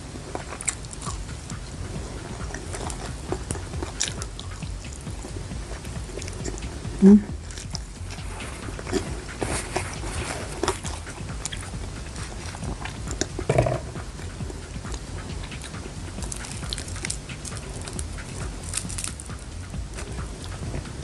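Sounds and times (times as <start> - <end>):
close chewing and biting: 0.0 - 21.0
throaty sound: 0.0 - 21.0
wet mouth clicks: 0.4 - 21.0.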